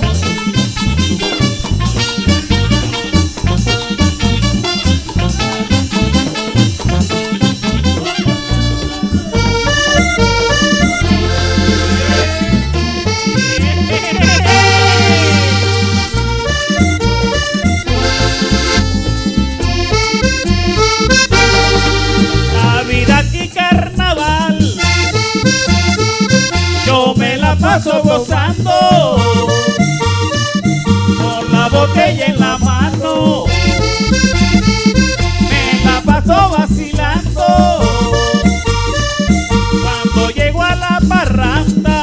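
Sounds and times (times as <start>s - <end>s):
repeating drum beat: 0.0s - 23.3s, 23.9s - 42.0s
accordion melody: 0.0s - 42.0s.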